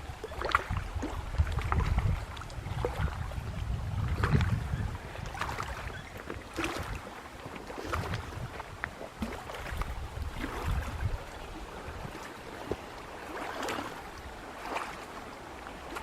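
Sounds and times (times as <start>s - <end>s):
wind gusting over microphone: 0.0s - 12.8s.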